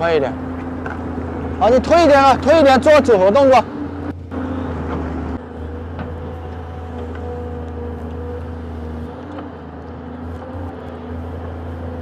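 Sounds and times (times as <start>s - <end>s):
excavator diesel engine under load: 0.0s - 12.0s.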